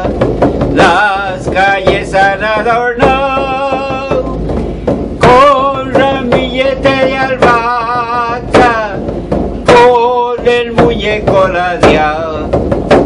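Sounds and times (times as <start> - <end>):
man singing with vibrato: 0.0 - 12.7
frame drum beaten with stick: 0.0 - 13.0.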